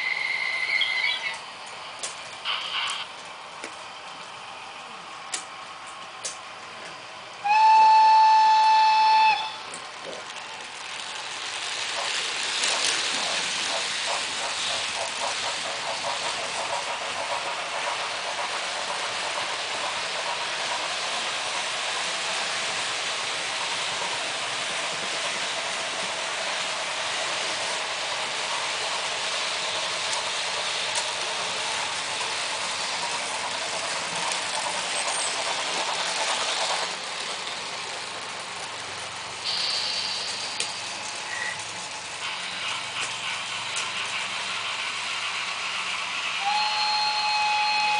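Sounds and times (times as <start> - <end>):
model train wheels and motors whirring: 0.0 - 47.9
regular clicking on track: 0.6 - 4.6, 5.2 - 7.4, 9.3 - 46.5.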